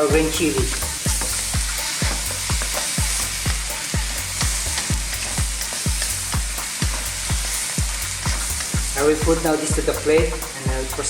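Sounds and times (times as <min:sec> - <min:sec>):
food sizzling in a hot wok: 0:00.0 - 0:11.0
music with thumping beat and bass: 0:00.0 - 0:11.0.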